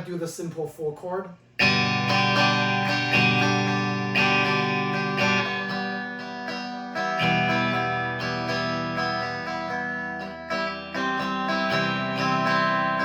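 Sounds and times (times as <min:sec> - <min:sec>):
electric guitar strumming chords: 0:01.6 - 0:13.0.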